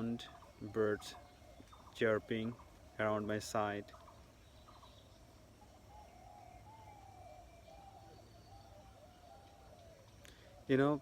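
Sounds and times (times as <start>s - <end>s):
distant birds warbling: 0.0s - 11.0s.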